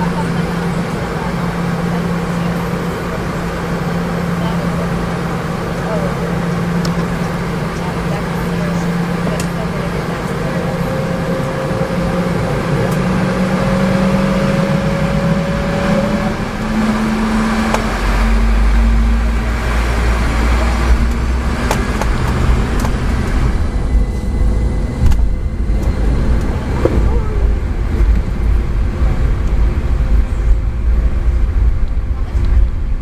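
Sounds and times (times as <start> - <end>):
deep rumble: 0.0 - 33.0
jet engine whine: 0.0 - 33.0.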